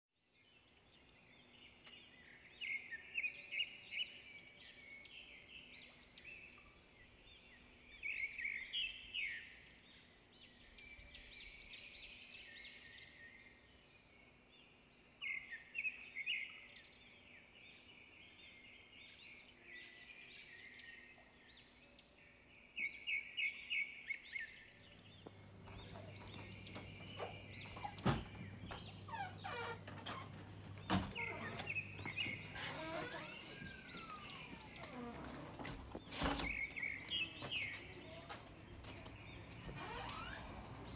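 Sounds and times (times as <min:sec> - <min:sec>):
garden birds chirping: 0:00.2 - 0:40.9.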